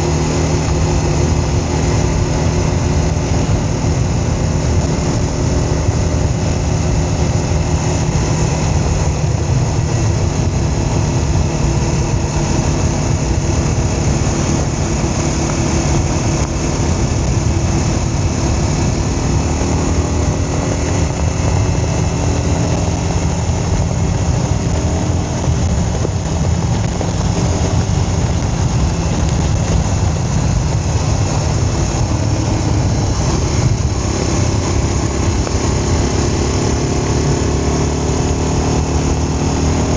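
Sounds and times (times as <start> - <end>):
road noise rumble: 0.0 - 39.9
vehicle engine running: 0.0 - 39.9.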